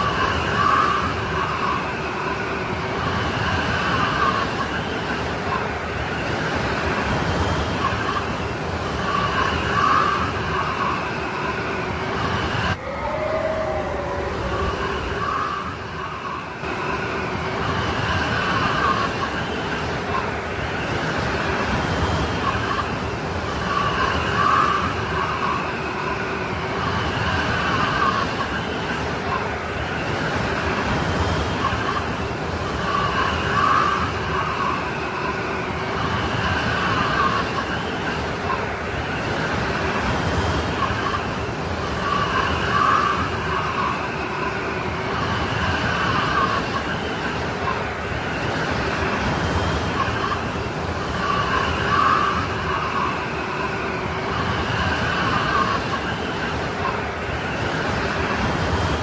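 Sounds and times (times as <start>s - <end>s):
howling snowstorm wind: 0.0s - 59.0s.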